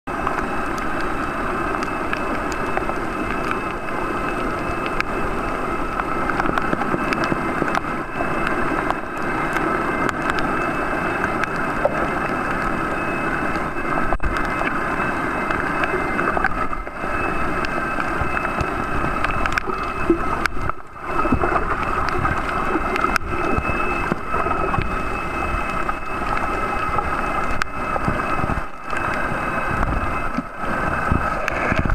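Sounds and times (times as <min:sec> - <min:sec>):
constant underwater hum: 0:00.1 - 0:31.9.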